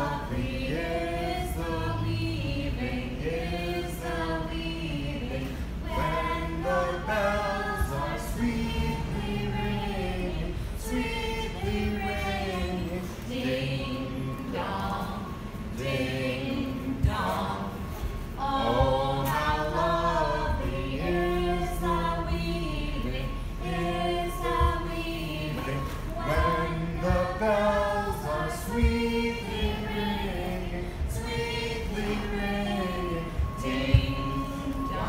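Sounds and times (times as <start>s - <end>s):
group singing without instruments: 0.0s - 35.0s.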